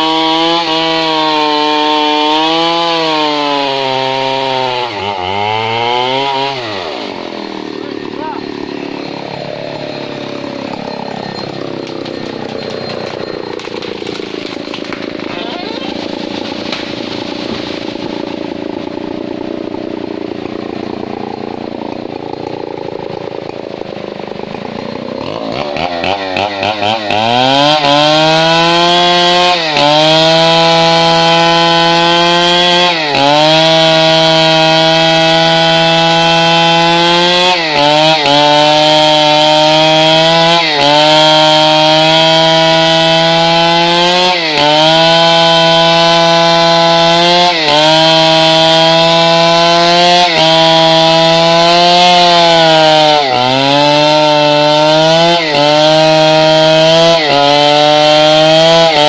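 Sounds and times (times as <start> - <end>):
chainsaw sawing through wood: 0.0 - 59.0.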